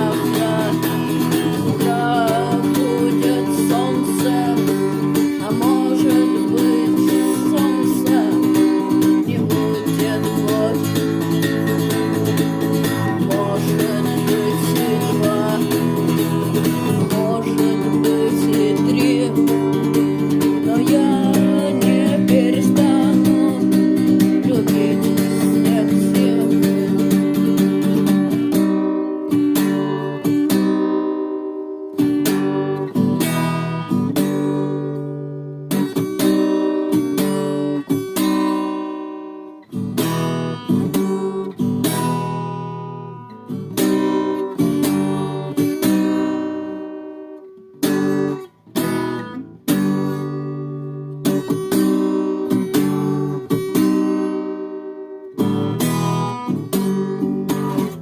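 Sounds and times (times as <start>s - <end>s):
guitar chords strummed: 0.0s - 58.0s.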